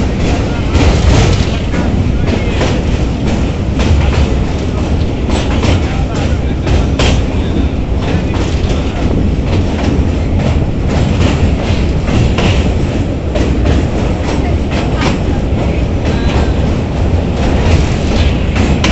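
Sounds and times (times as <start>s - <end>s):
irregular clatter: 0.0s - 18.9s
train wheels rumbling on rails: 0.0s - 18.9s.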